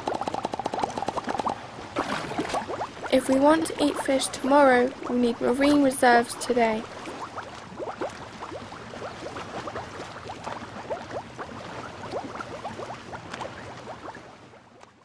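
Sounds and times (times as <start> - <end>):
underwater bubbles gurgling: 0.0 - 15.0.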